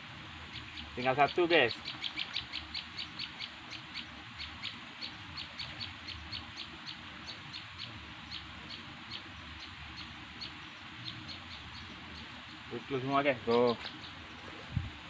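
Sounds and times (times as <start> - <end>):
steady outdoor hiss: 0.0 - 15.0
small bird calling: 0.5 - 15.0.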